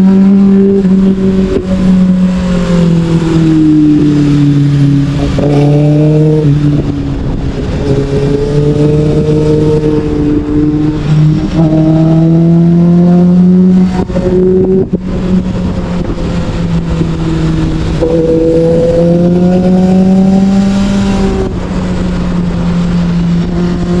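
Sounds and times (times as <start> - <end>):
motorcycle engine accelerating: 0.0 - 24.0
wind rushing over microphone: 0.0 - 24.0.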